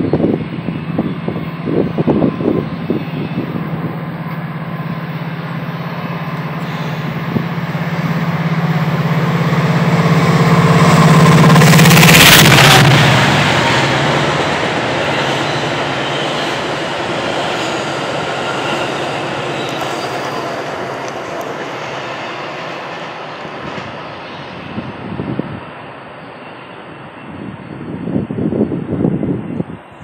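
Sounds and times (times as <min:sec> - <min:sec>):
train rumbling past on rails: 0:00.0 - 0:30.0.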